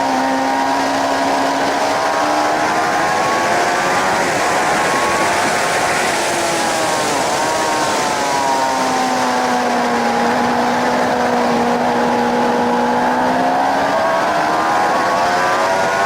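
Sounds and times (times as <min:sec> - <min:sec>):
heavy wind rush: 0:00.0 - 0:16.0
motorcycle engine revving: 0:00.0 - 0:16.0.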